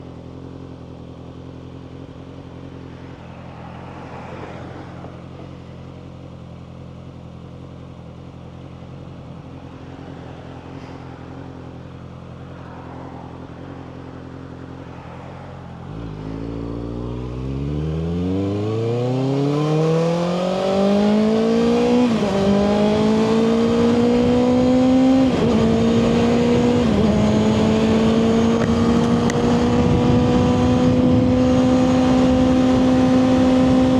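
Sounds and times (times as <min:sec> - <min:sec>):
motorcycle engine idling and accelerating: 0:00.0 - 0:33.9.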